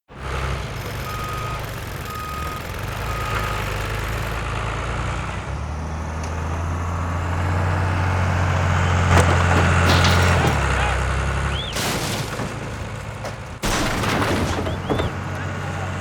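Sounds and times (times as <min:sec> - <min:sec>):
bulldozer engine running: 0:00.0 - 0:16.0.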